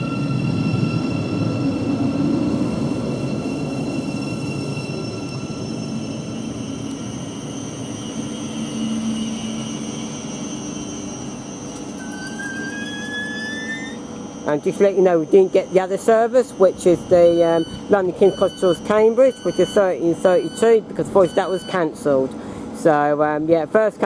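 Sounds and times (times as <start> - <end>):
train wheel rumble: 0.0 - 24.0.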